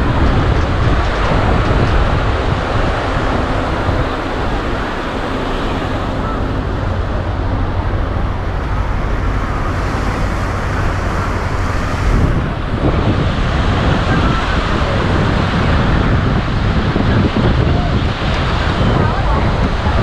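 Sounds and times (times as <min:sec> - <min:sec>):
surf on a sand beach: 0:00.0 - 0:20.0
wind rumbling on microphone: 0:00.0 - 0:20.0.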